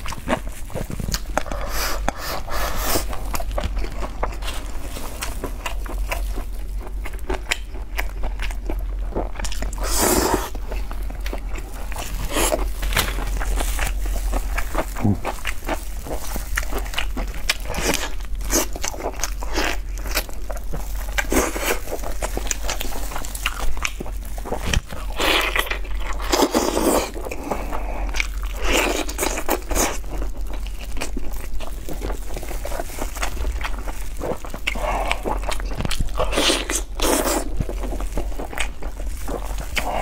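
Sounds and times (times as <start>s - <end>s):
chewing chicken: 0.0s - 40.0s
wet crunching: 0.0s - 40.0s.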